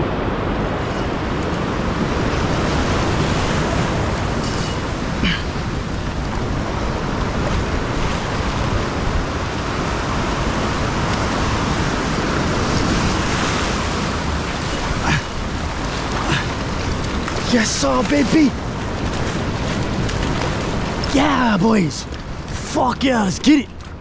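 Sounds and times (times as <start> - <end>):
surf breaking on rocks: 0.0 - 24.0
wind buffeting microphone: 0.0 - 24.0.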